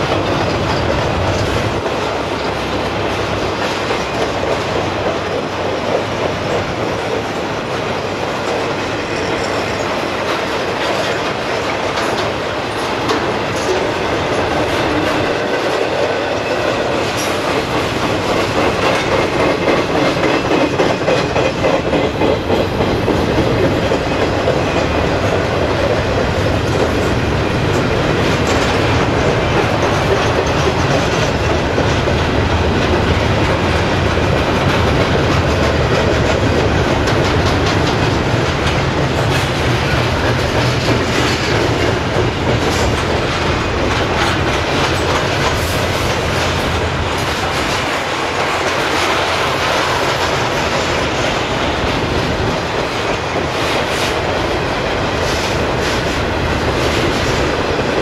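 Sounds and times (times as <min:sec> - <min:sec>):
freight train cars rumbling past: 0:00.0 - 0:58.0
wheels clicking over rail joints: 0:00.0 - 0:58.0.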